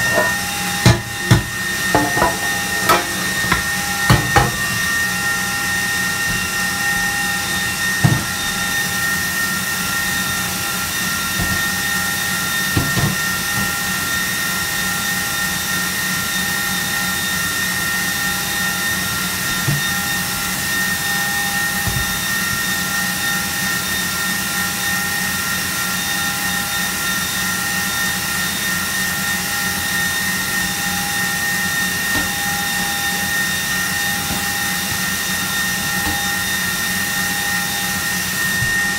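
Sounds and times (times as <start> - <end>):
electric mixer whining: 0.0 - 25.3, 27.2 - 38.9.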